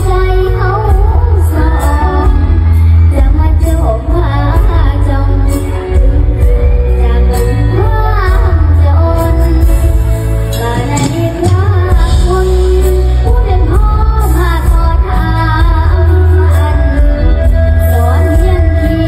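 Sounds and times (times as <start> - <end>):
backing music with heavy bass: 0.0 - 19.0
girl singing in high voice: 0.0 - 19.0.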